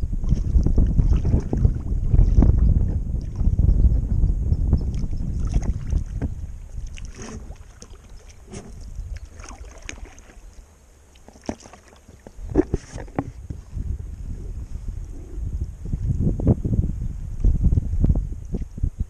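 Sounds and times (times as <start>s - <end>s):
wind buffeting microphone: 0.0s - 9.8s, 12.2s - 19.0s
water around a kayak: 0.0s - 19.0s.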